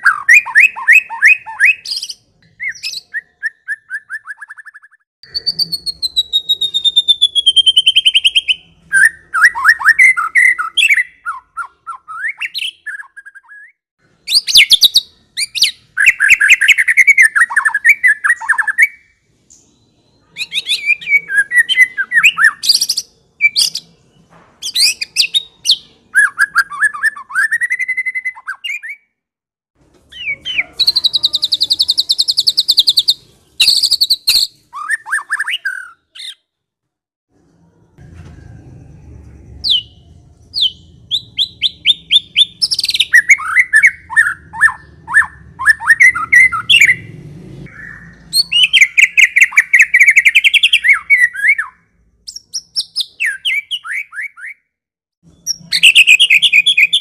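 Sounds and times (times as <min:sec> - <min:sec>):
bird singing varied song: 0:00.0 - 0:29.1, 0:30.1 - 0:36.5, 0:39.0 - 0:47.1, 0:47.7 - 0:57.0.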